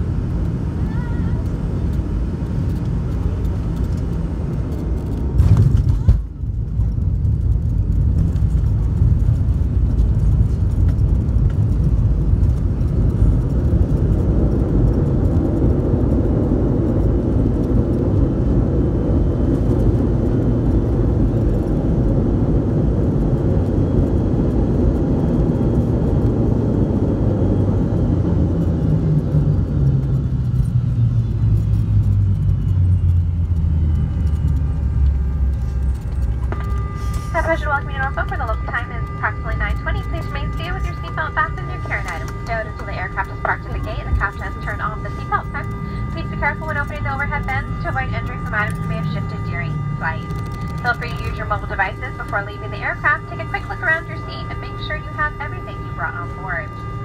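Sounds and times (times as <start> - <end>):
jet rumble on runway: 0.0 - 57.0.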